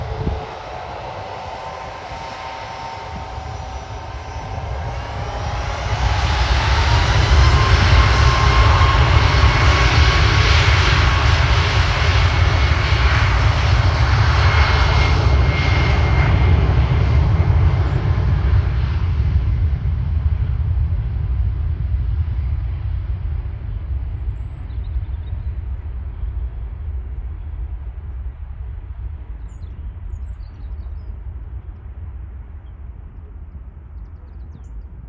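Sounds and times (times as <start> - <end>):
jet engines at takeoff: 0.0 - 35.0.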